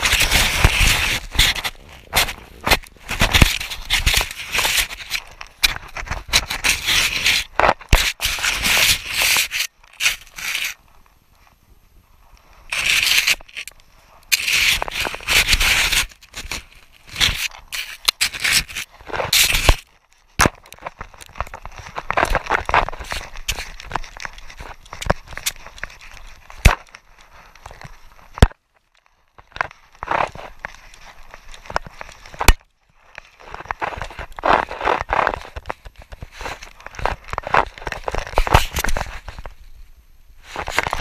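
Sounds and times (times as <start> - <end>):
snow crunching against camera: 0.0 - 28.4, 29.3 - 41.0.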